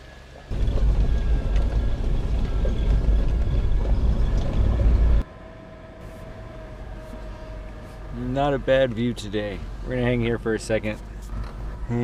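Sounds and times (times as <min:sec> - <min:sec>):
vehicle driving on dirt road: 0:00.0 - 0:12.0.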